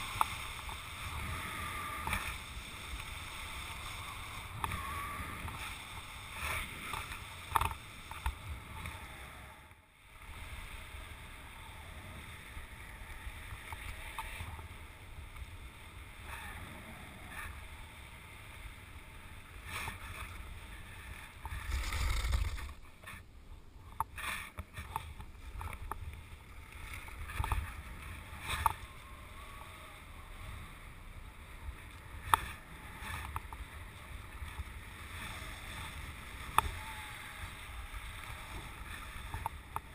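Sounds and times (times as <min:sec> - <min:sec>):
skis sliding over icy snow: 0:00.0 - 0:09.5, 0:10.1 - 0:23.2, 0:24.1 - 0:39.9
wind rumbling on microphone: 0:00.0 - 0:39.9.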